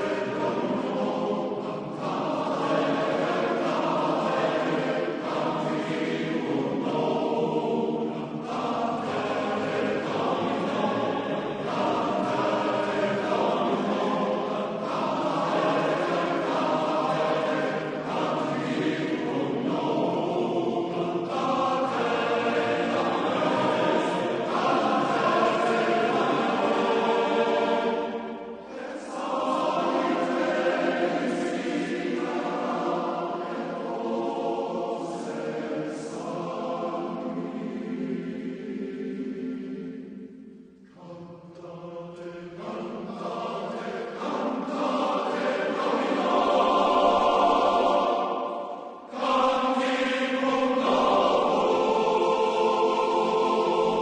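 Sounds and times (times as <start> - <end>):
men's chorus singing: 0.0 - 54.0.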